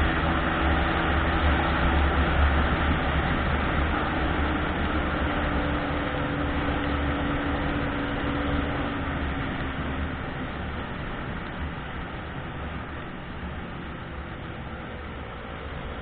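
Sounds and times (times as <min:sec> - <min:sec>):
engine and tyre rumble: 0:00.0 - 0:16.0
rain on wet road: 0:00.0 - 0:16.0.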